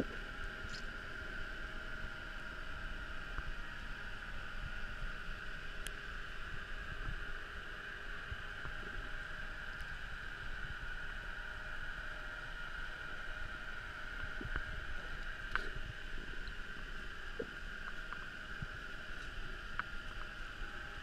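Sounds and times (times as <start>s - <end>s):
underwater hiss and rumble: 0.0s - 21.0s.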